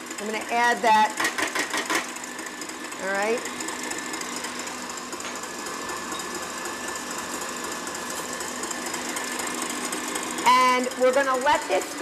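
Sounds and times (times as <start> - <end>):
electric mixer whisking: 0.0 - 12.0.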